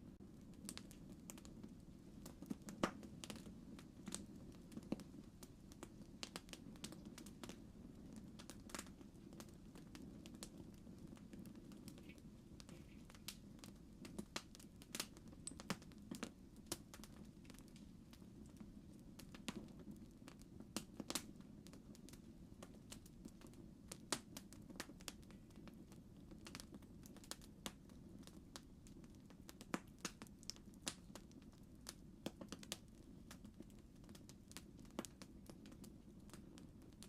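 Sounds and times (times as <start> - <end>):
campfire crackling and popping: 0.1 - 37.0.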